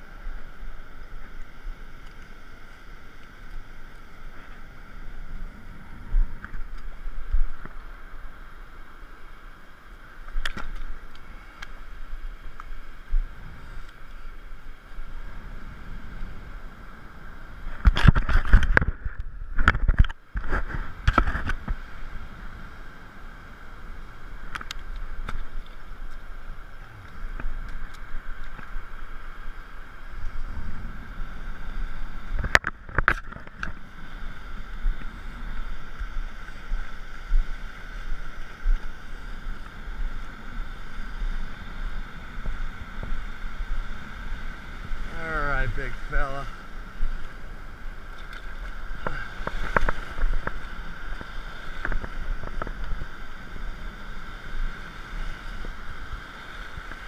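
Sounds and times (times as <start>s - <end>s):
ocean surf washing: 0.0s - 57.0s.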